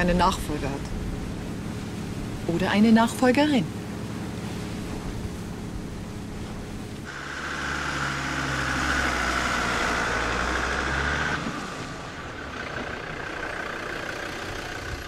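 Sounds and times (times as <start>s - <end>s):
car engine running: 0.0s - 15.0s
motorboat engine running: 0.0s - 15.0s.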